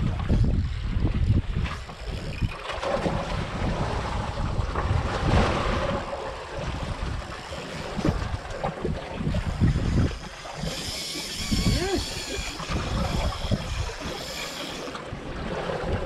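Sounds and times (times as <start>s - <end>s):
wind buffeting microphone: 0.0s - 14.2s
waves washing around boat: 0.0s - 16.0s.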